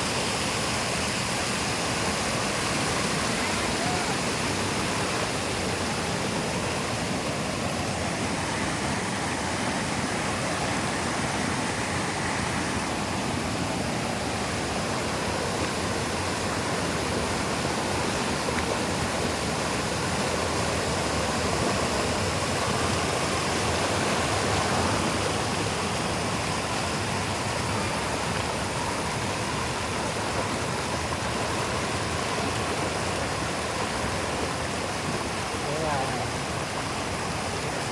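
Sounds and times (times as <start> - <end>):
waterfall rushing over rock: 0.0 - 37.9.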